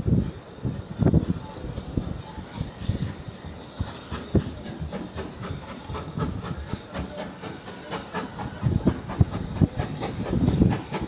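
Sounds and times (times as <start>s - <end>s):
steam locomotive exhaust beats: 0.0s - 11.0s.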